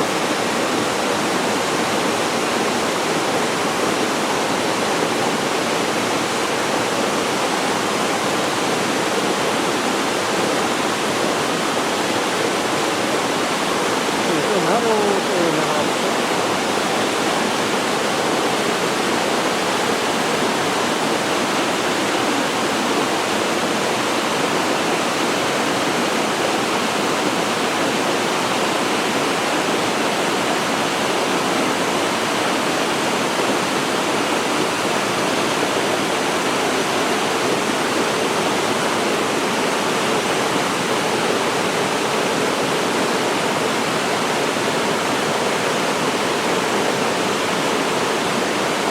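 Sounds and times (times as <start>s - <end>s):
waterfall pouring into pool: 0.0s - 48.9s.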